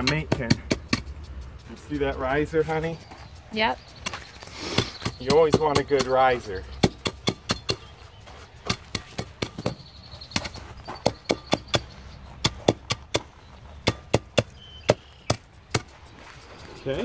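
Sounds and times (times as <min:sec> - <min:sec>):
hand tamper thudding on gravel: 0:00.0 - 0:03.3, 0:03.9 - 0:16.5.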